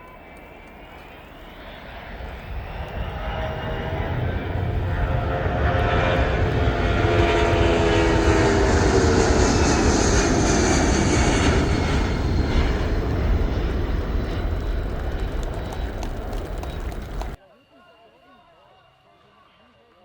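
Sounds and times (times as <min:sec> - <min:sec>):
aircraft passing by: 0:00.0 - 0:17.4.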